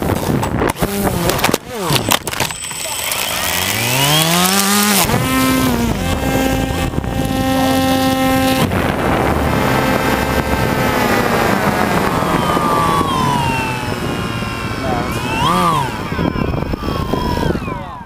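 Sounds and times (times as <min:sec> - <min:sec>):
drone propeller motors whining: 0:00.0 - 0:18.0.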